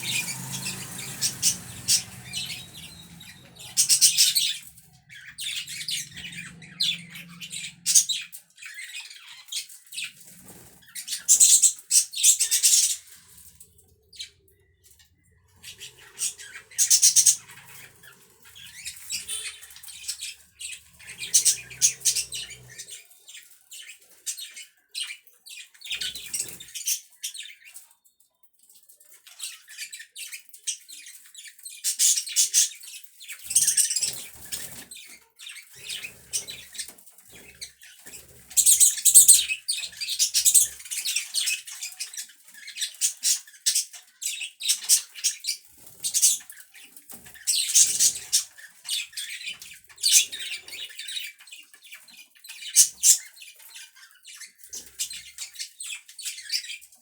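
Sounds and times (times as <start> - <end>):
budgerigars chirping: 0.0 - 27.5, 31.8 - 51.4, 52.5 - 56.8.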